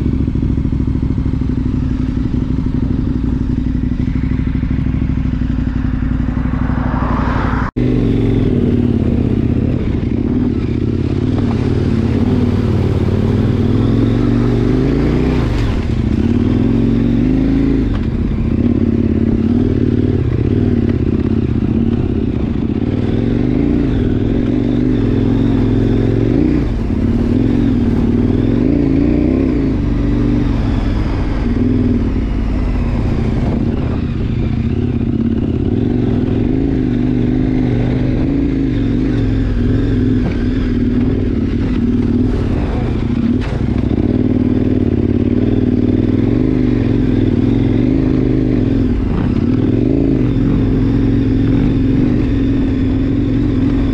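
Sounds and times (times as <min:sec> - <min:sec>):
motorcycle engine at low revs: 0:00.0 - 0:53.9.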